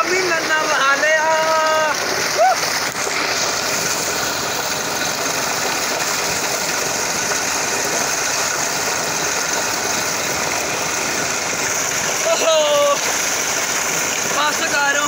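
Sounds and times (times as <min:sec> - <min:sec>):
water pouring into a concrete tank: 0:00.0 - 0:15.0.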